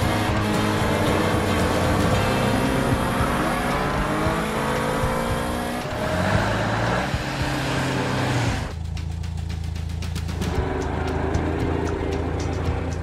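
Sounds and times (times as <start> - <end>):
cartoon car engines revving: 0.0 - 8.8, 10.3 - 13.0
low engine drone: 0.0 - 13.0.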